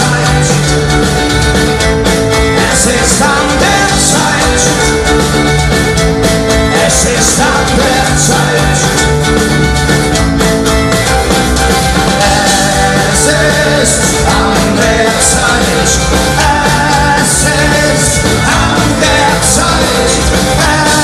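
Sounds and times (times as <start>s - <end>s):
folk metal band playing live: 0.0s - 21.0s.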